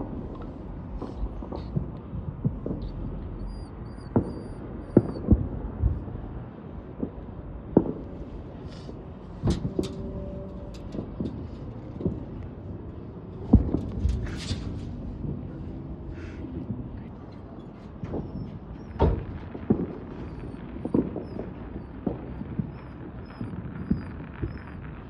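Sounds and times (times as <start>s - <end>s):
distant fireworks booming: 0.0s - 25.0s.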